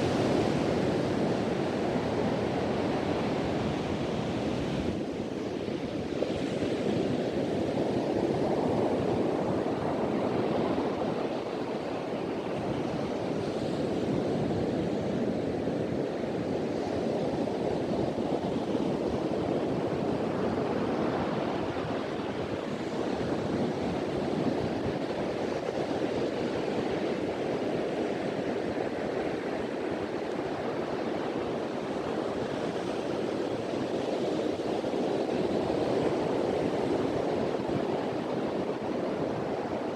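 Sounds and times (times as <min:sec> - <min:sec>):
ocean surf washing onto beach: 0:00.0 - 0:39.9
wind: 0:00.0 - 0:39.9.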